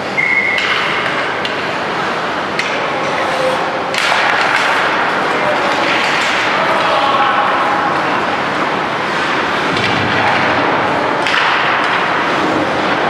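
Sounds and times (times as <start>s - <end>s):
hockey sticks clacking on ice: 0.4s - 8.3s, 9.1s - 13.0s.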